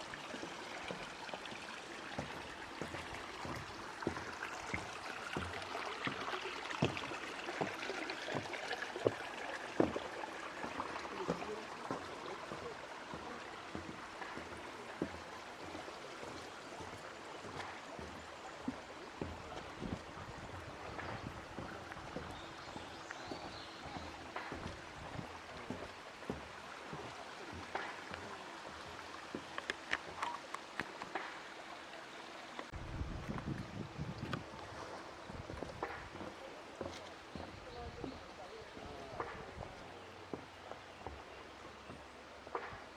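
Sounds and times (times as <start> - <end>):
stream babbling over stones: 0.0 - 42.9.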